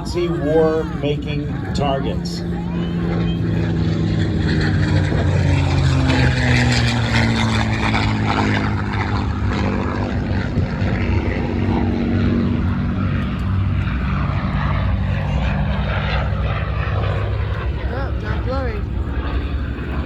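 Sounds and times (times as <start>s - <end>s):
propeller aircraft engine in flight: 0.0s - 20.0s.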